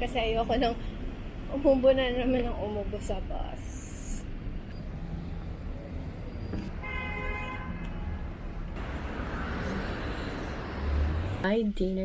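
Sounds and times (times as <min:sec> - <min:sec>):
road traffic rumbling: 0:00.0 - 0:11.6.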